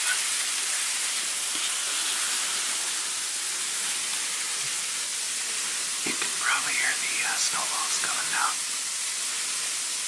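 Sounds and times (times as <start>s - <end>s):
hiss of snow pellets falling: 0.0s - 10.0s.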